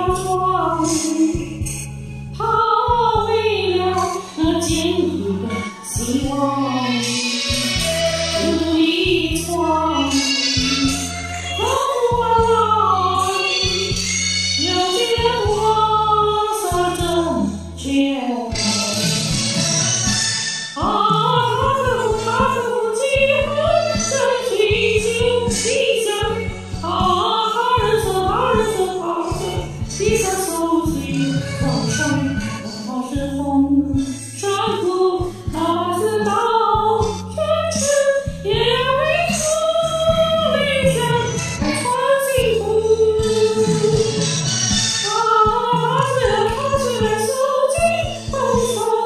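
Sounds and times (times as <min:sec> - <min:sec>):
person singing karaoke: 0:00.0 - 0:01.8, 0:02.4 - 0:49.0
backing track with bass line: 0:00.0 - 0:49.0.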